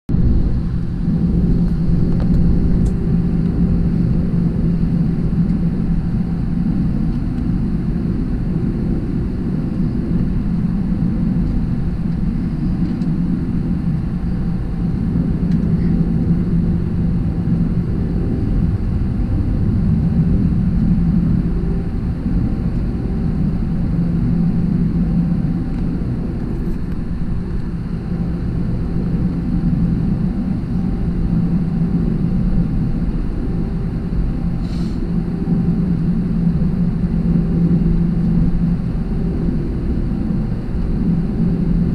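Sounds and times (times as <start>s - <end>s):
airplane cabin engine drone: 0.1s - 41.9s.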